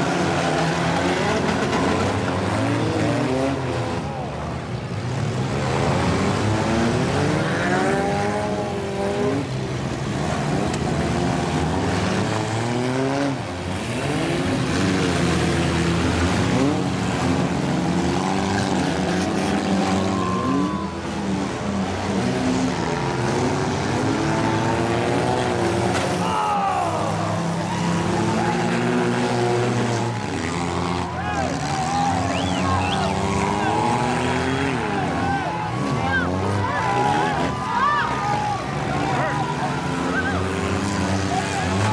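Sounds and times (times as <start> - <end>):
car engines revving hard: 0.0 - 41.9.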